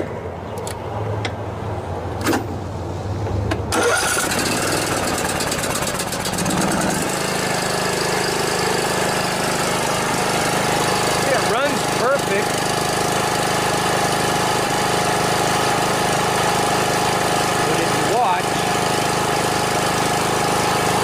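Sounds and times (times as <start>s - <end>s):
lawn mower engine cranking: 3.7s - 21.0s
lawn mower engine running: 3.7s - 21.0s.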